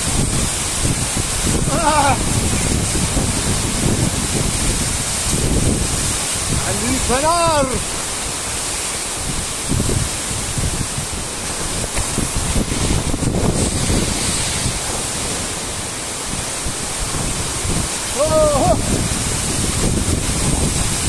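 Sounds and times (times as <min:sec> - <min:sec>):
waterfall roaring onto rocks: 0:00.0 - 0:21.0
wind buffeting microphone: 0:00.0 - 0:21.0.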